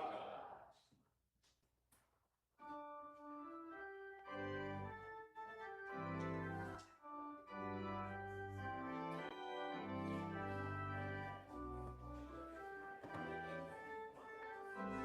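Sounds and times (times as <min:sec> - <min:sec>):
church organ chords: 0:02.7 - 0:15.0.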